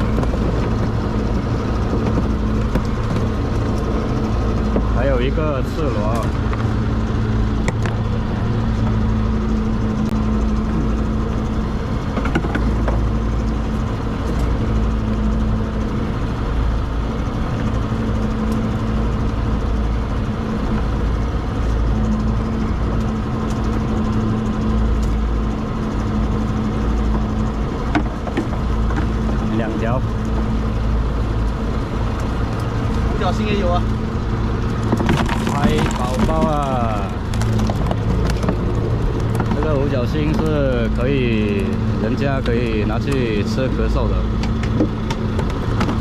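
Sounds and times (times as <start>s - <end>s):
boat engine running: 0.0s - 46.0s.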